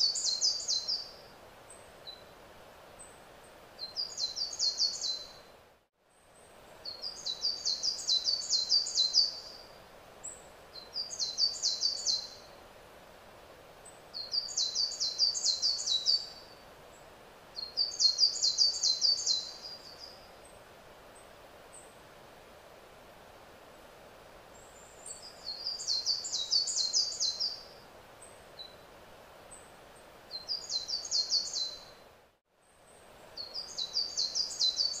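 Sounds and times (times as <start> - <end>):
songbird singing: 0.0 - 5.5, 6.1 - 12.6, 13.8 - 22.0, 24.5 - 32.0, 32.6 - 35.0
faint outdoor background noise: 0.0 - 35.0.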